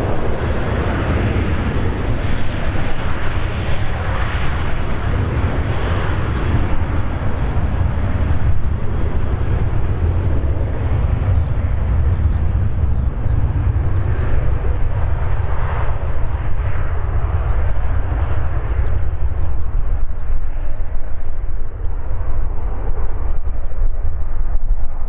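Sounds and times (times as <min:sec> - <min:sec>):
jet engines at takeoff: 0:00.0 - 0:25.0.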